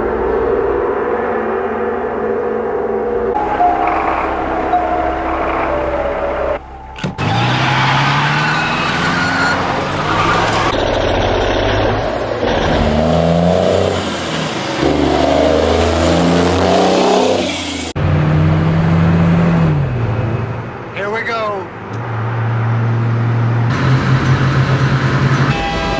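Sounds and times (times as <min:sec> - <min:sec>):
car and truck engines revving: 0:03.0 - 0:21.0, 0:21.7 - 0:25.6.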